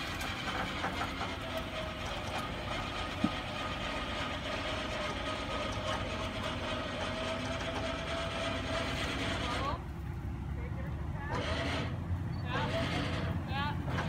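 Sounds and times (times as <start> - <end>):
winch motor whining: 0.0 - 10.0, 10.9 - 14.0.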